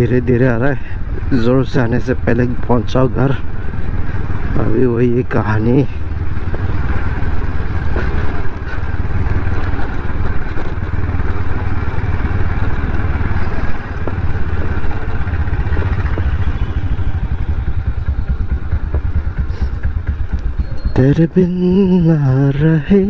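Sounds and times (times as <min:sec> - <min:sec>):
motor scooter on dirt road: 0:00.0 - 0:23.0.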